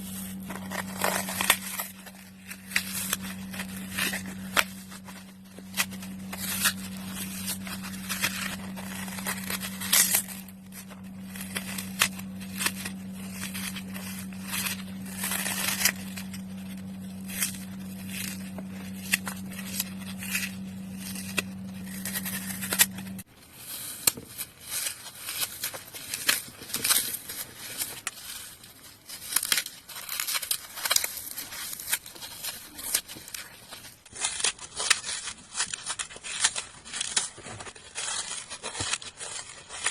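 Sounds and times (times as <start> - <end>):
floral foam crunching: 0.0 - 39.9
low steady hum: 0.0 - 39.9.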